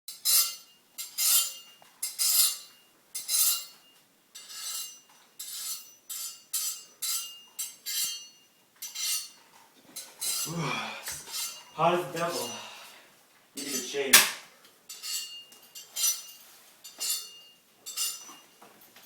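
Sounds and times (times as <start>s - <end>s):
faint metallic ring: 0.1s - 10.5s, 11.2s - 12.8s, 14.9s - 19.0s.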